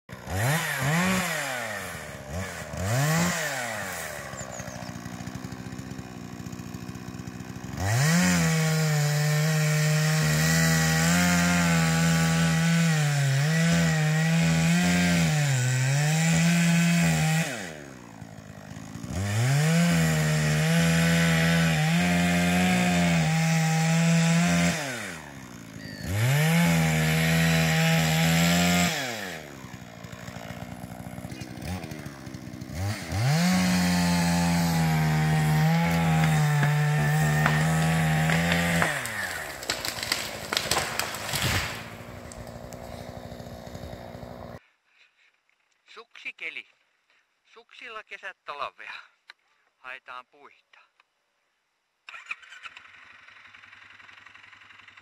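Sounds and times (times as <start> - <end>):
chainsaw cutting tree: 0.1 - 44.6.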